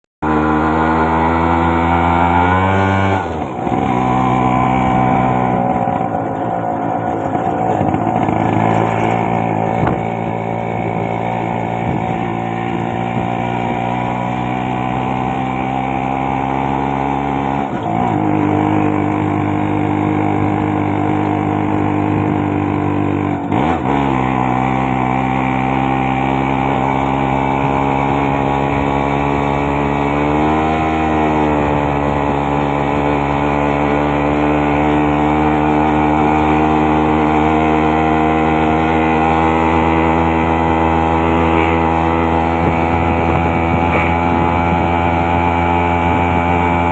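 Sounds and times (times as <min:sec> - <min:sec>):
two-stroke motorcycle engine running: 0:00.2 - 0:46.9.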